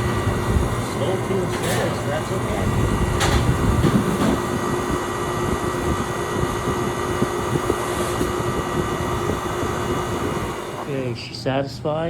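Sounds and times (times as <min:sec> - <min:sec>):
compressor and fan humming: 0:00.0 - 0:12.0.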